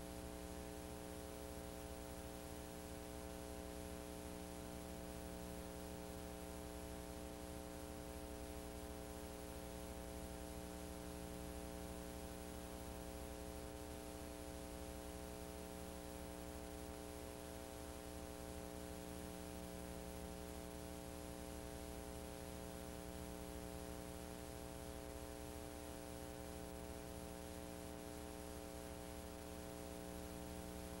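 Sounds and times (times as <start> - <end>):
faint electrical hum with hiss: 0.0 - 31.0.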